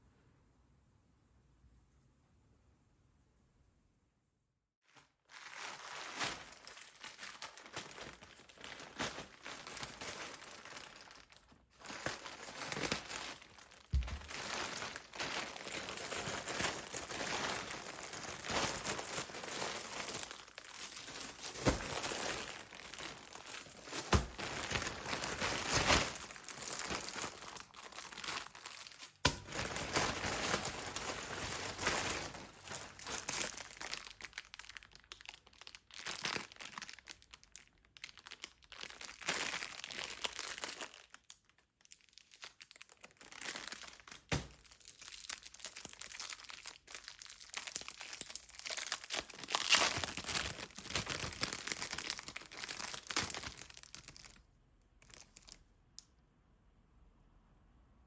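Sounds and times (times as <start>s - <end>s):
plastic packaging crinkling: 4.9s - 55.6s.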